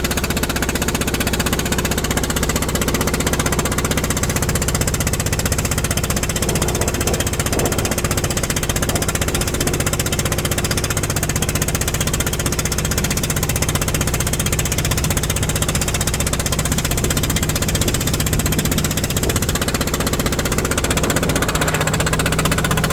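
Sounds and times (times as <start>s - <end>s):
boat engine clattering: 0.0s - 22.9s.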